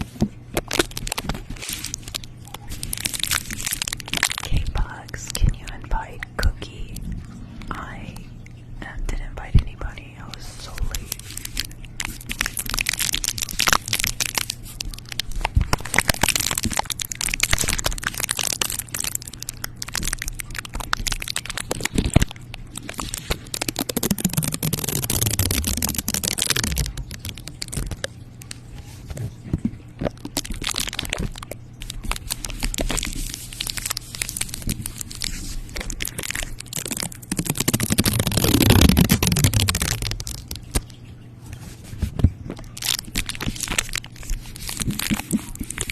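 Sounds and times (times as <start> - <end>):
crackling and crunching at microphone: 0.0 - 45.9.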